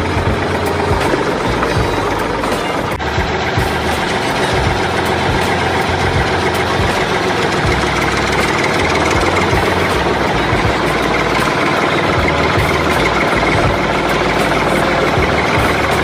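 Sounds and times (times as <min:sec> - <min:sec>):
mini tractor engine clattering: 0:00.0 - 0:16.0.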